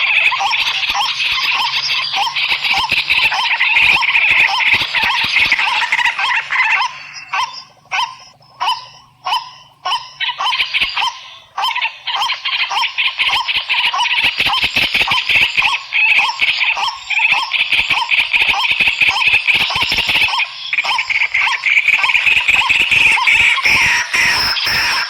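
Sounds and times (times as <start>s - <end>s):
animal calls: 0.0s - 25.0s.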